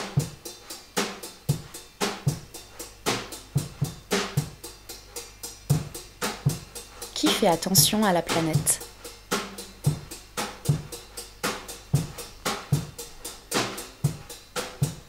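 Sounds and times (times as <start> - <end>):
background music drum beat: 0.0 - 15.0.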